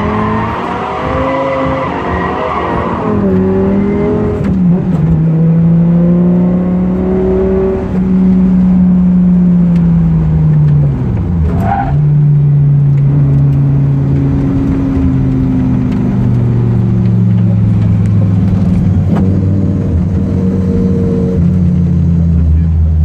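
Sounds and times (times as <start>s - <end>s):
car engine running hard: 0.0s - 23.0s.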